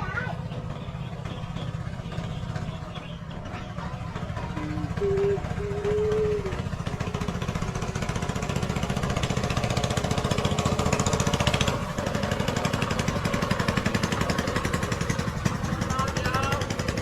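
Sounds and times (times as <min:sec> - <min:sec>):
ferry engine thudding: 0:00.0 - 0:17.0.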